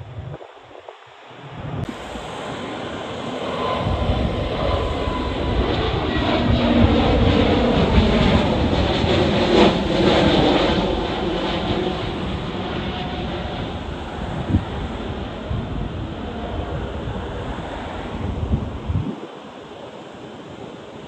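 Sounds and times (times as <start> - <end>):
airliner jet engines climbing out: 0.1 - 21.0.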